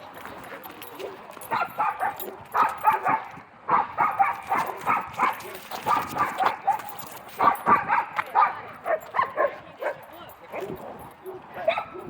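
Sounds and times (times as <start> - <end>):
dog barking: 1.5 - 12.0.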